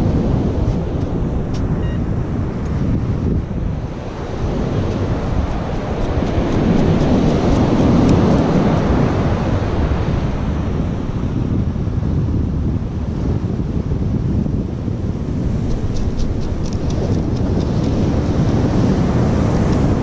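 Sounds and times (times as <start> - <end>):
heavy surf rushing: 0.0 - 12.1, 14.7 - 20.0
wind buffeting microphone: 0.0 - 20.0.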